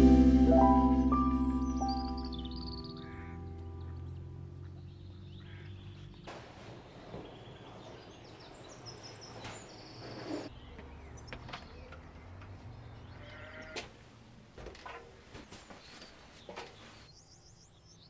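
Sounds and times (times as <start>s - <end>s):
small birds chirping: 0.6s - 13.8s, 15.3s - 18.0s.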